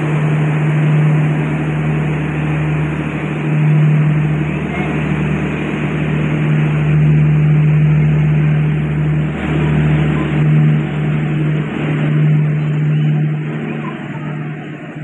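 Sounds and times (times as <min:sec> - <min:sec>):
train engine drone: 0:00.0 - 0:15.0
train rumbling: 0:00.0 - 0:15.0.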